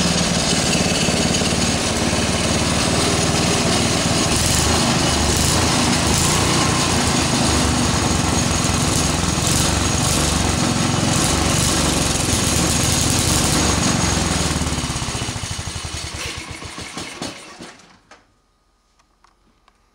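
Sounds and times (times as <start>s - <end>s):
go-kart engine running and stopping: 0.0s - 18.2s.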